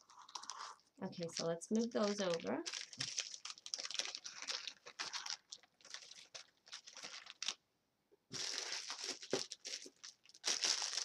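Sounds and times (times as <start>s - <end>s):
plastic packets crinkling: 0.0s - 7.6s, 8.3s - 11.0s.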